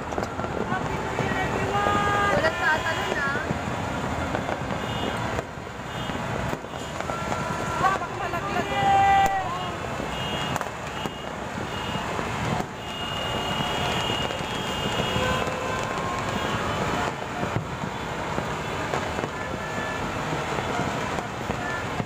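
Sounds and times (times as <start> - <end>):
distant fireworks explosions: 0.0 - 22.0
sharp fireworks bangs: 0.0 - 22.0.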